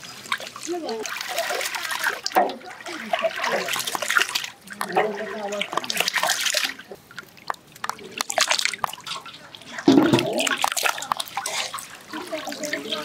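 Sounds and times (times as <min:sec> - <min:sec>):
water splashing in metal tray: 0:00.0 - 0:13.0.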